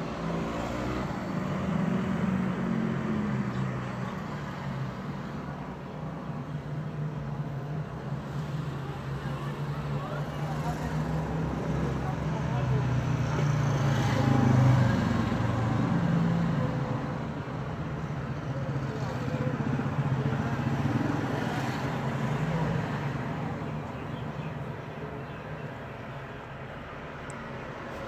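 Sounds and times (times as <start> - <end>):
cars and motorcycles passing: 0.0 - 28.0.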